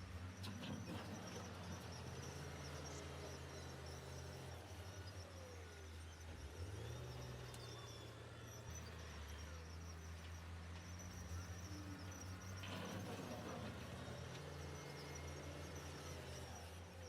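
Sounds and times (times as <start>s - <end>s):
construction machinery engines running: 0.0s - 17.0s.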